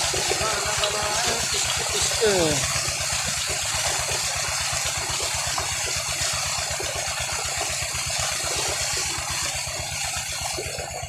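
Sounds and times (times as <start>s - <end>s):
pump engine beating: 0.0s - 11.0s
water gushing and splashing: 0.0s - 11.0s.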